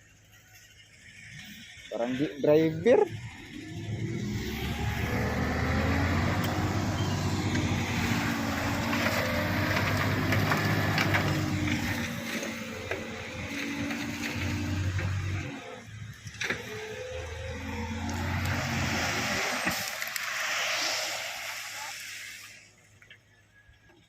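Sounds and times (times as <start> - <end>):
bulldozer diesel engine running: 0.0 - 20.1
clatter and grinding of tracks: 0.0 - 21.0.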